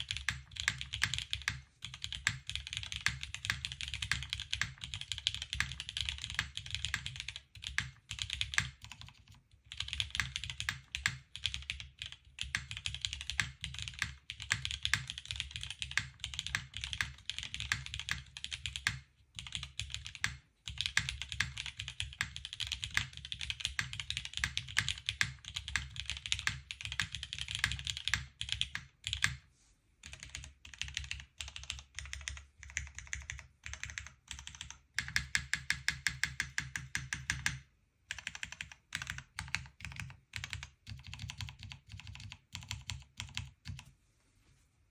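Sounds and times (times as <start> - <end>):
mechanical keyboard typing: 0.0 - 29.4, 30.0 - 43.9.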